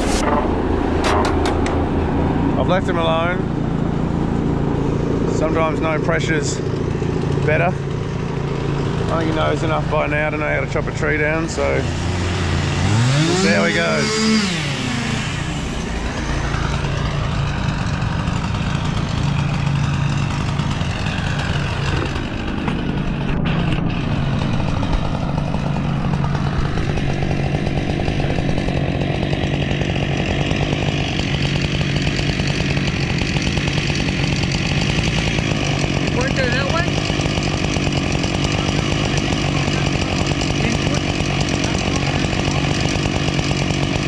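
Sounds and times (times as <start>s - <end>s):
chainsaw cutting wood: 0.0s - 0.2s, 0.8s - 2.0s, 6.6s - 44.0s.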